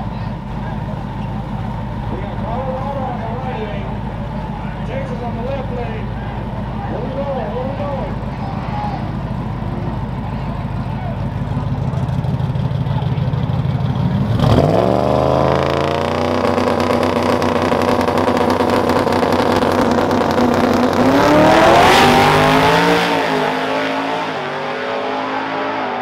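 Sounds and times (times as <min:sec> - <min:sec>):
truck engine accelerating hard: 0:00.0 - 0:26.0.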